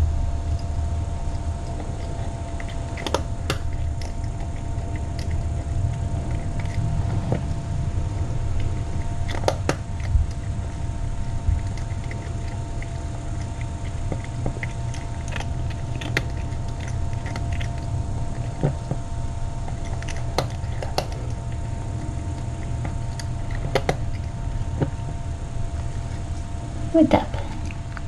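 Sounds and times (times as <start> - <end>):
cat chewing and crunching food: 0.0 - 28.0
low hum: 0.0 - 28.0.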